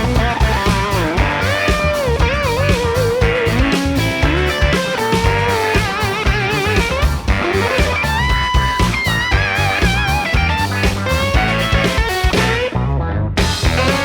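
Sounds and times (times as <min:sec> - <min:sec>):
bluesy electric guitar with drums: 0:00.0 - 0:12.8, 0:13.4 - 0:14.0.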